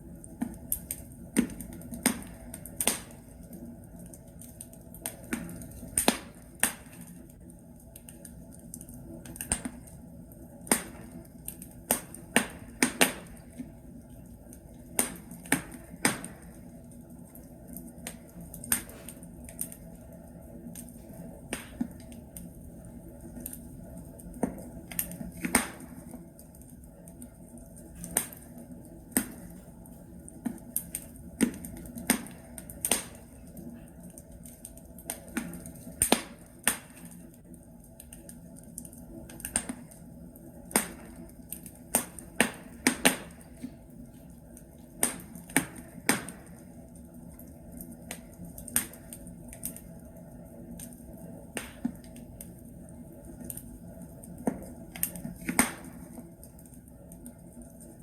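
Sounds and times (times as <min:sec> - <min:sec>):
low hiss of fire: 0:00.0 - 0:58.0
logs crackling and popping: 0:00.1 - 0:58.0.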